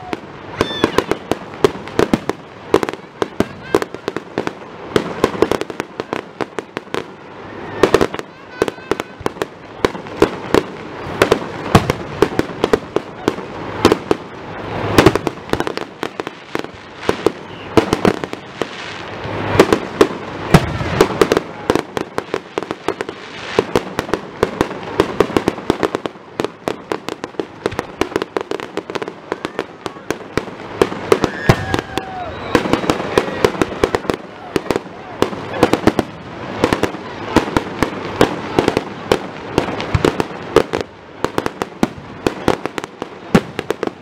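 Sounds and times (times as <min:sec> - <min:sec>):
fireworks bursts and crackling bangs: 0:00.0 - 0:44.0.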